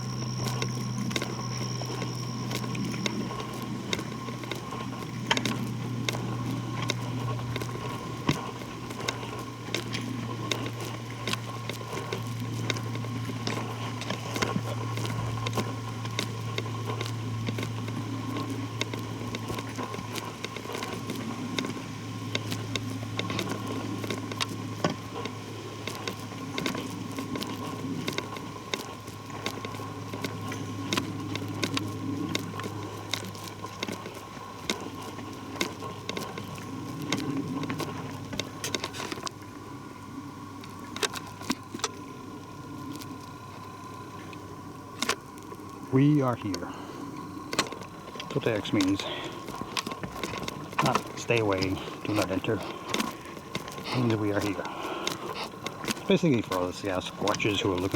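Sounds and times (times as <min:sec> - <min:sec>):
footsteps on leaves and twigs: 0:00.0 - 0:57.9
steady low hum: 0:00.0 - 0:57.9.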